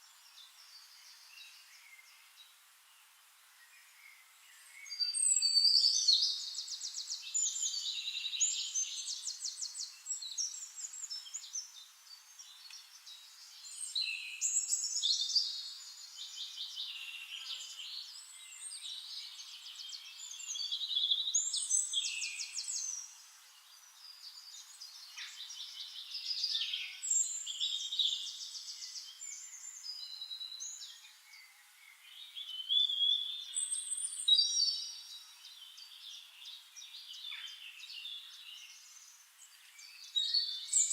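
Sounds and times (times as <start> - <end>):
songbirds trilling and whistling: 3.6 - 40.9.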